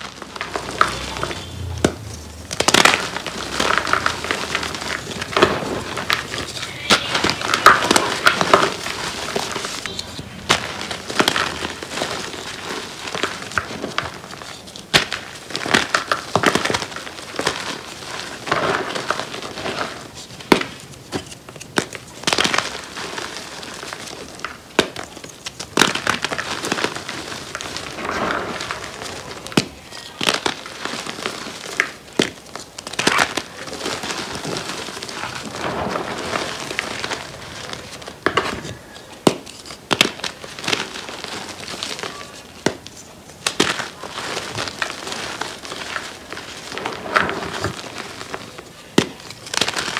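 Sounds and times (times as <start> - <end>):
chalk clumps crackling: 0.0 - 49.9
hands crushing chalk: 0.0 - 49.9.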